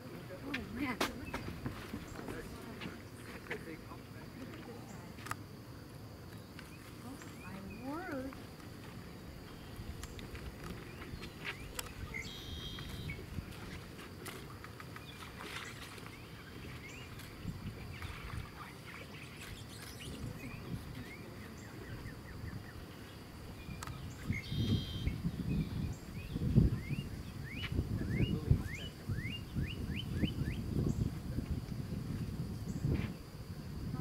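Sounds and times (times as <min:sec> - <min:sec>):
birds chirping: 0:00.2 - 0:05.2, 0:06.2 - 0:13.5, 0:14.7 - 0:31.2.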